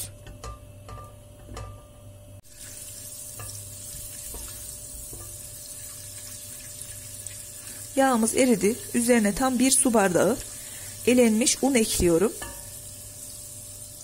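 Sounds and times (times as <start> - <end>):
butter sizzling: 2.4 - 14.0.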